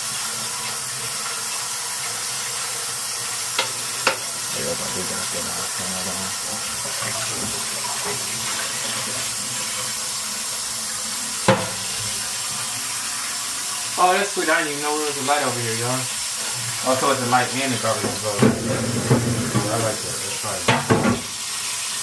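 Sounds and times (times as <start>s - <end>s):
kitchen tap running into sink: 0.0s - 22.0s.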